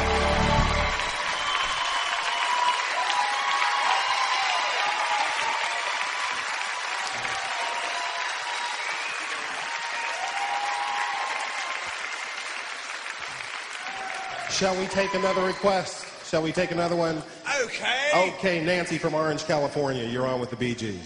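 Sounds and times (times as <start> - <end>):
audience applauding and cheering: 0.0 - 19.1.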